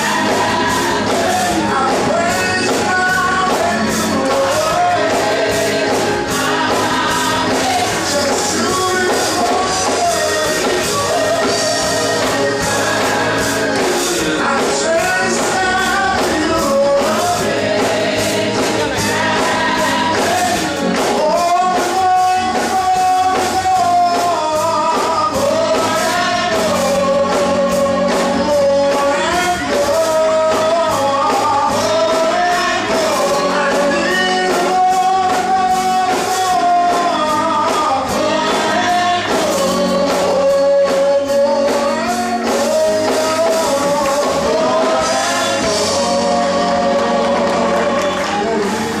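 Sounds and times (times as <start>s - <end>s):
band with steady beat: 0.0s - 49.0s
voices singing gospel: 0.0s - 49.0s.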